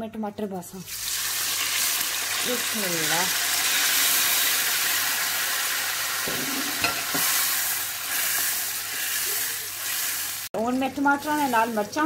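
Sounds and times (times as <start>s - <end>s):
tomatoes sizzling in hot oil: 0.7s - 12.0s.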